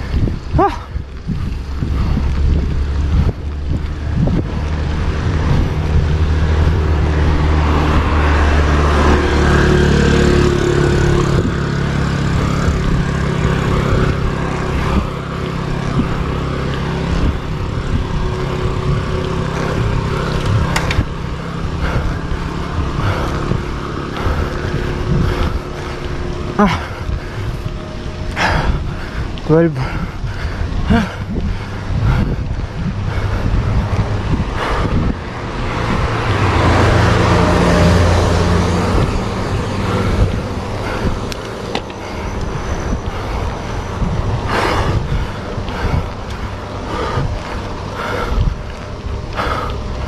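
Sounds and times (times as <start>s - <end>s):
vehicle engine drone: 0.0s - 50.0s
wind rush on microphone: 0.0s - 50.0s.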